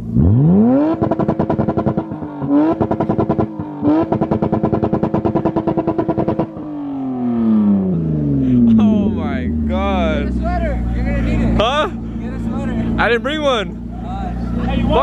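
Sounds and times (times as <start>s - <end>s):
car engine on rev limiter: 0.0s - 15.0s.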